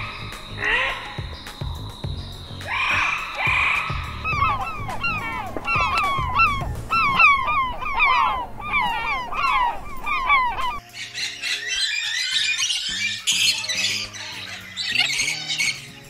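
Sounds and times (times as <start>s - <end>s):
parakeet squawking: 0.0s - 1.5s, 2.6s - 16.0s
seabird colony calling: 0.0s - 16.0s.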